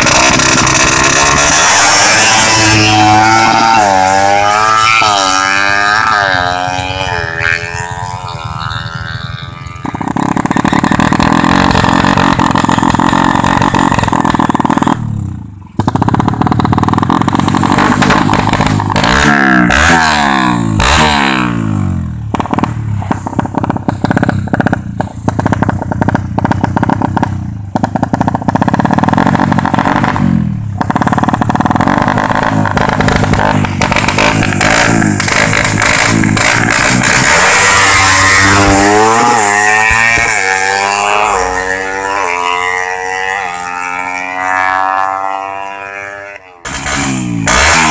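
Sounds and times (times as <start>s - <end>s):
motorcycle engine revving hard: 0.0s - 47.9s.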